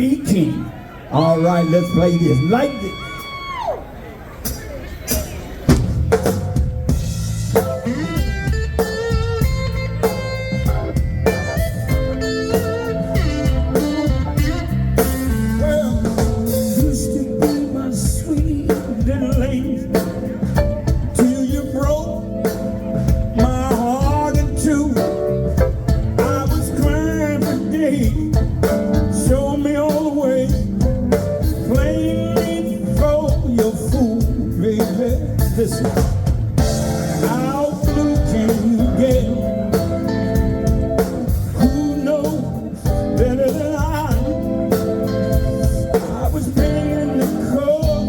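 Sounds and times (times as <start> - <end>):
blues band playing: 0.0 - 3.7, 4.4 - 48.0
guitar lead with bent notes: 5.7 - 48.0.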